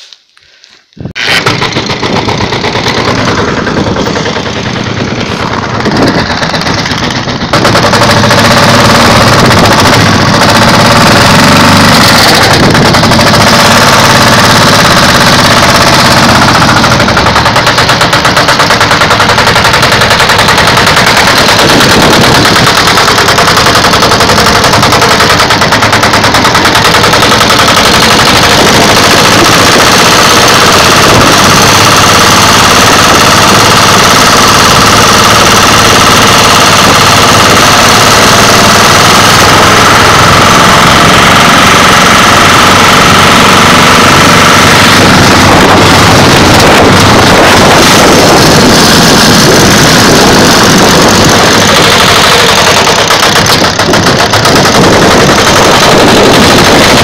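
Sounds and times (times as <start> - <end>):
vehicle engine running: 1.0 - 57.0.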